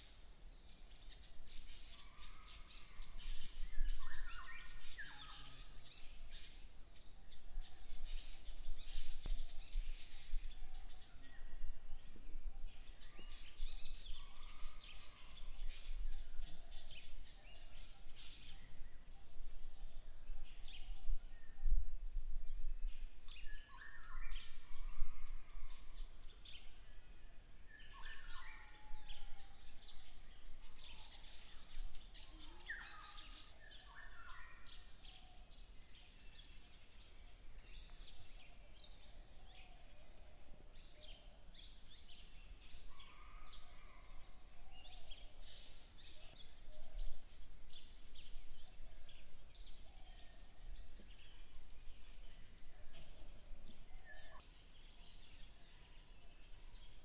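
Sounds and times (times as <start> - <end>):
wild birds chirping: 0.0 - 57.0.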